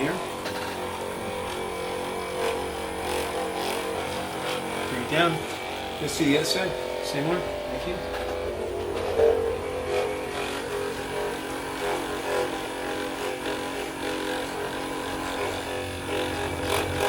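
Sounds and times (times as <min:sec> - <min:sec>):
small electric motor humming: 0:00.0 - 0:17.0.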